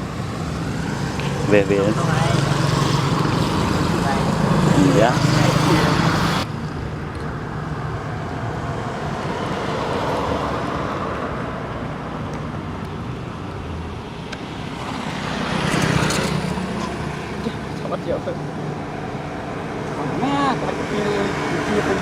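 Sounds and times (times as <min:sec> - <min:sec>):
distant road traffic: 0:00.0 - 0:22.0.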